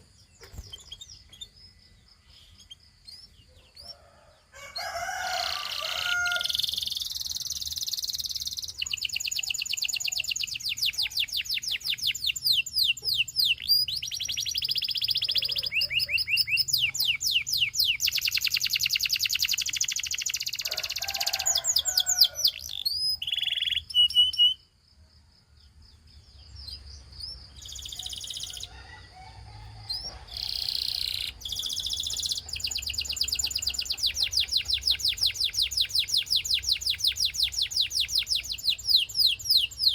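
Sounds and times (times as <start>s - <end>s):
canary singing trills: 0.0s - 24.8s, 25.7s - 29.0s, 29.8s - 39.9s.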